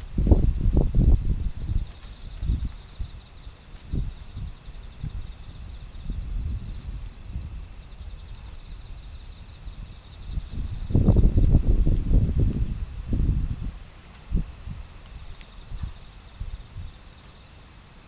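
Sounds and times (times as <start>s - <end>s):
strong wind buffeting microphone: 0.0s - 17.1s.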